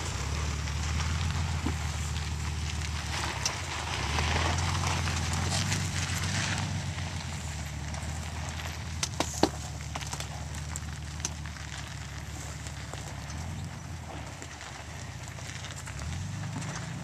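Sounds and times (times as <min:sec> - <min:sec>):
car engine at low crawl: 0:00.0 - 0:17.0
tyres crunching on gravel: 0:00.0 - 0:17.0.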